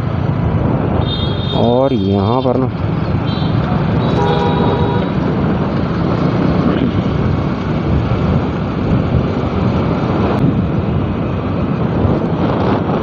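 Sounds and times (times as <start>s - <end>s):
vehicle road noise: 0.0s - 13.0s
wind noise on microphone: 0.0s - 13.0s.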